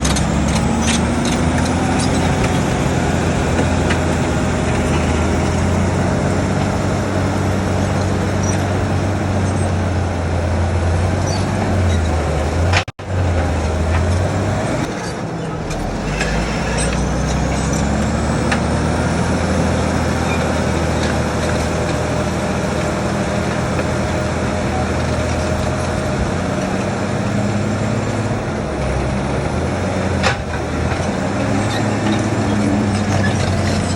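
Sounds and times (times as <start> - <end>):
bulldozer diesel engine working: 0.0 - 33.9.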